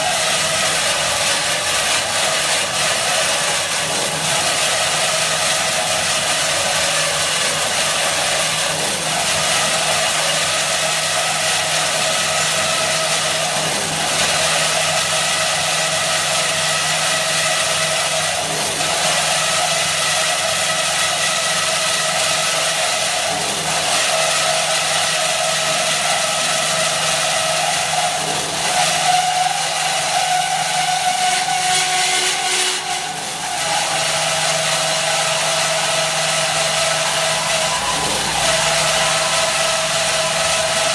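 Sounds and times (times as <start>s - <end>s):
band saw running: 0.0s - 40.9s.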